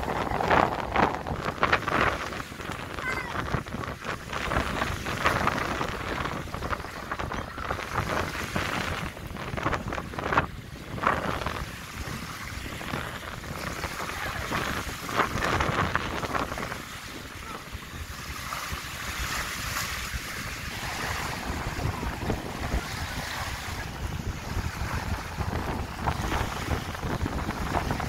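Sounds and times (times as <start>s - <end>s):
waves breaking on sandy shore: 0.0s - 28.0s
wind buffeting microphone: 0.0s - 28.0s.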